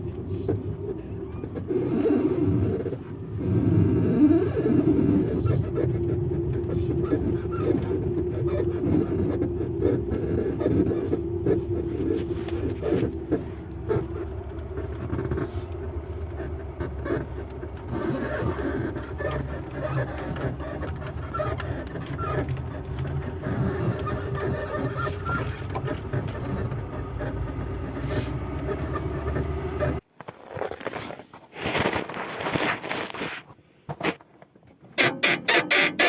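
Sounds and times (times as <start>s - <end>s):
car rumbling: 0.0s - 30.0s
suspension squeaking: 0.0s - 30.0s, 34.9s - 36.0s.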